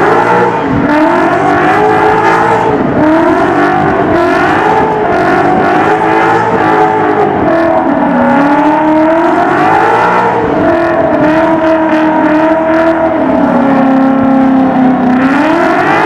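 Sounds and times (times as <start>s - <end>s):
car engine at high revs: 0.0s - 16.0s
steady rushing noise: 0.1s - 16.0s.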